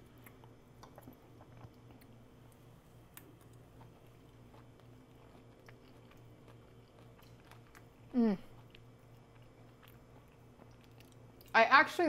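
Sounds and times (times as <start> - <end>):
faint chewing: 0.0 - 11.6
low room hum: 0.0 - 12.0.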